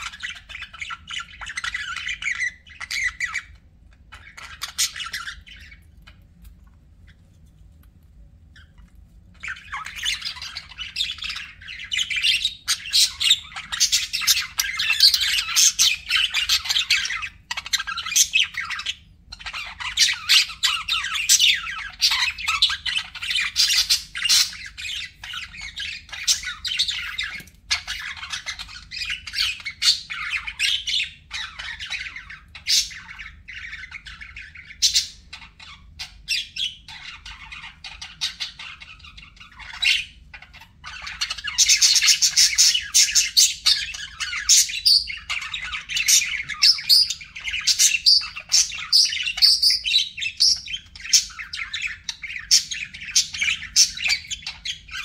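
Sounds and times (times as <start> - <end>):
budgerigars chattering: 0.0 - 6.4, 8.5 - 55.0.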